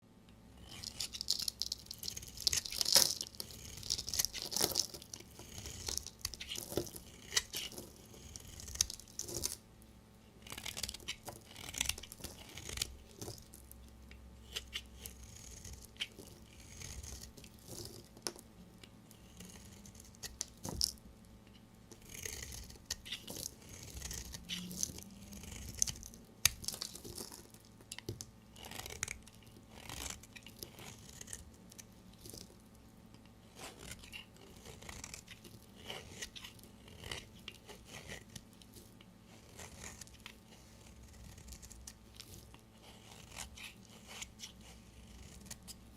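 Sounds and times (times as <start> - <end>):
knife cutting soap: 0.6 - 9.6, 10.4 - 45.9.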